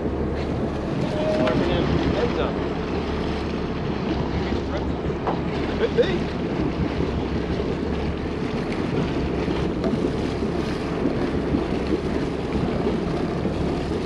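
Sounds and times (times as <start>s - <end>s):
boat engine humming: 0.0s - 14.0s
wind buffeting microphone: 0.0s - 14.0s.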